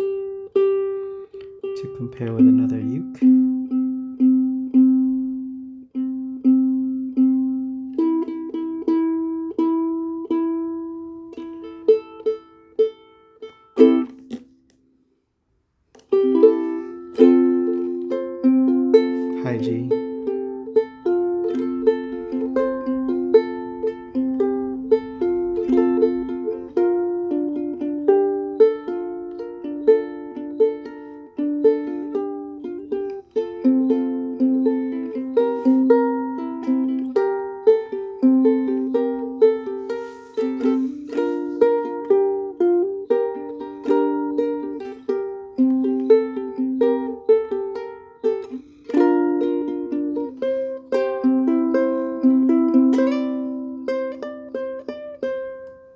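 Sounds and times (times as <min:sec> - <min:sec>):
fingerpicked ukulele: 0:00.0 - 0:55.9.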